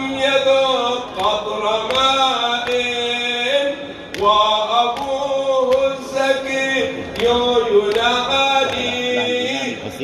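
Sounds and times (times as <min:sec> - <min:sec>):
men chanting in unison: 0:00.0 - 0:10.0.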